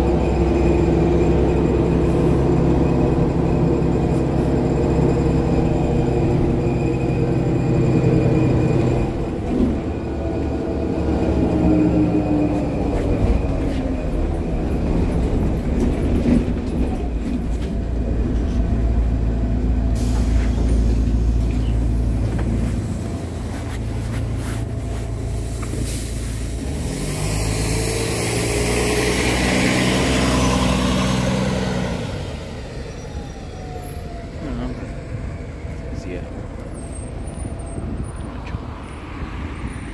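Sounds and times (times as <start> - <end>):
bus diesel engine running: 0.0 - 39.8.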